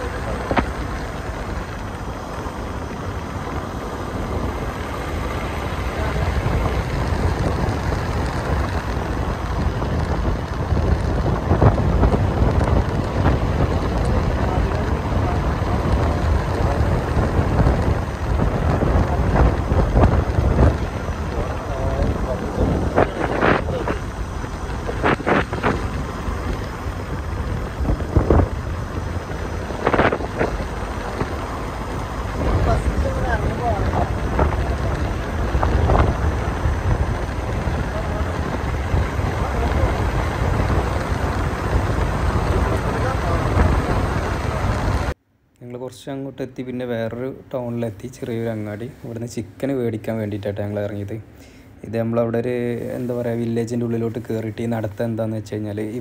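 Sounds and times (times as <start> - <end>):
wind buffeting microphone: 0.0 - 45.2
vehicle rumble with hiss: 0.0 - 56.0.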